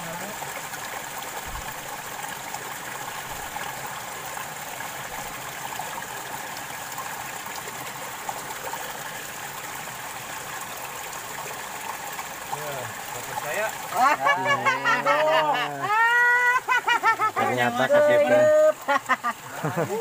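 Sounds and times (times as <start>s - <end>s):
stream babbling over stones: 0.0s - 20.0s.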